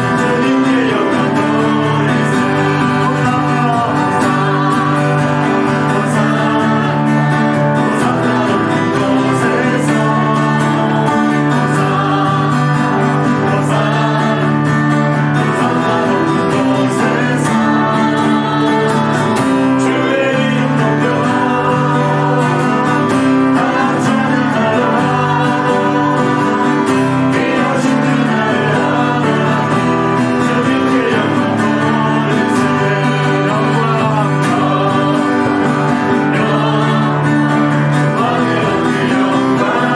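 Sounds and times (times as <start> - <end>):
guitar and band: 0.0 - 39.9
people singing worship song: 0.0 - 39.9.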